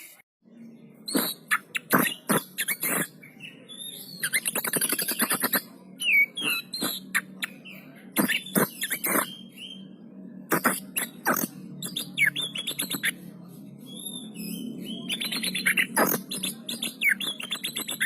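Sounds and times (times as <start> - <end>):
songbird chirps and trills: 0.5 - 18.0.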